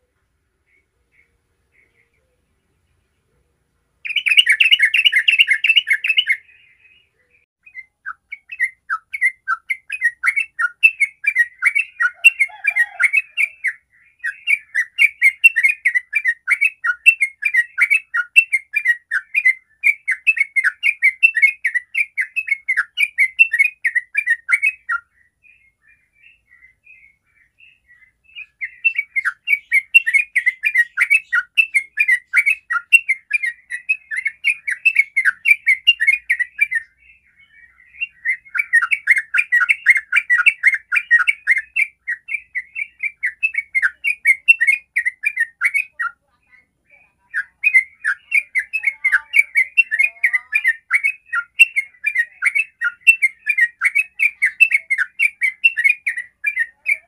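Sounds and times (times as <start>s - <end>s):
bird singing rolling chatter: 0.0s - 57.0s.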